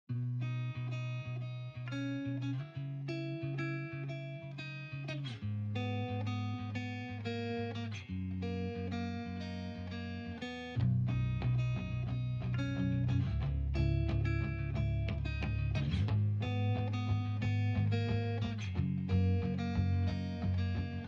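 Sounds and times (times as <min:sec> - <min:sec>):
plucked guitar music: 0:00.1 - 0:21.0.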